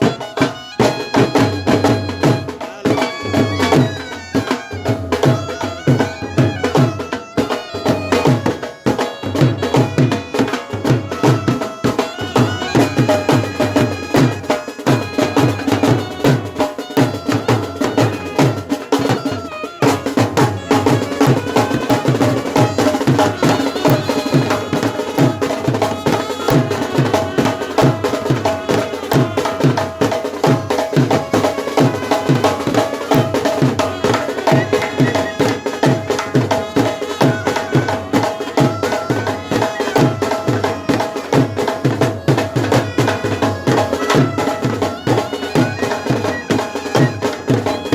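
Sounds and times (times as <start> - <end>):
brass band playing folk music: 0.0 - 47.9
fast drumbeat: 0.0 - 47.9.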